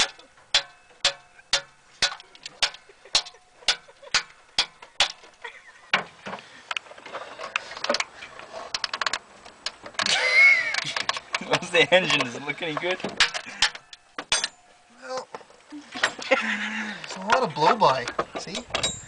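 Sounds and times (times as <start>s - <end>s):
metal clattering: 0.0s - 16.4s, 17.1s - 19.0s.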